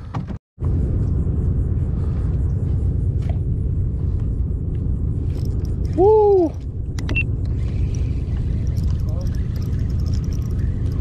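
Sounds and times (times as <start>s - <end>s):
low rumbling noise: 0.6s - 11.0s.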